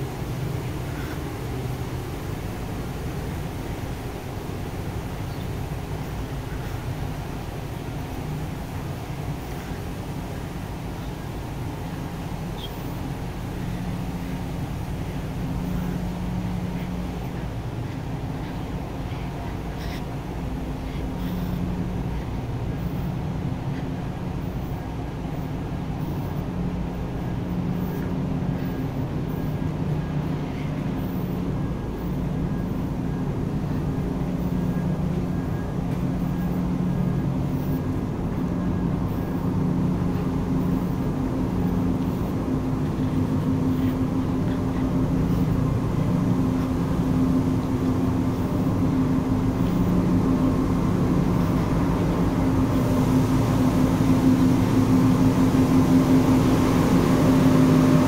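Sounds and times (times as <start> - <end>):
engine-room machinery drone: 0.0 - 58.0.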